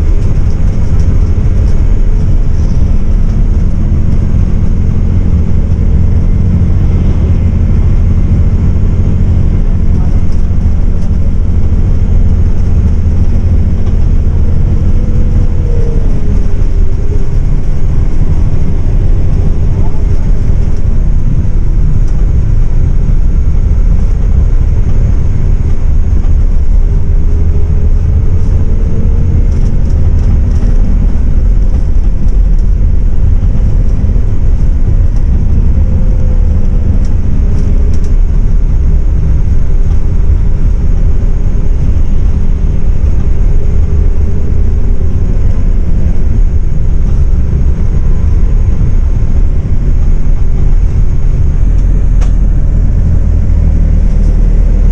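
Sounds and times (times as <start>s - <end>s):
bus engine and road rumble: 0.0s - 54.9s.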